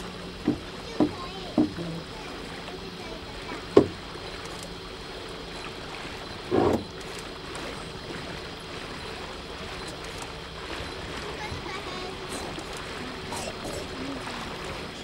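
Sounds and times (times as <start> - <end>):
steady low hum: 0.0 - 15.0
water rippling past hull: 0.0 - 15.0.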